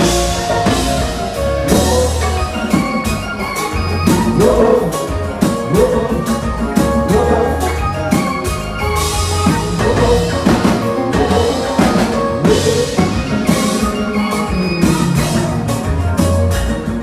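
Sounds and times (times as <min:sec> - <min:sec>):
bass: 0:00.0 - 0:17.0
drum kit beat: 0:00.0 - 0:17.0
keyboard: 0:00.0 - 0:17.0
live band playing: 0:00.0 - 0:17.0.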